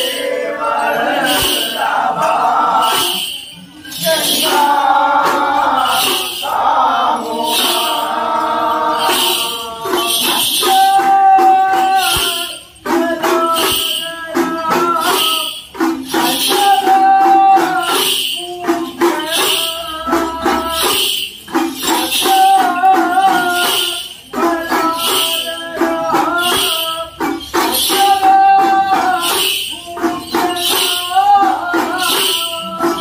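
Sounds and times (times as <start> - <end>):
hourglass drums: 0.0 - 33.0
men singing: 0.0 - 33.0.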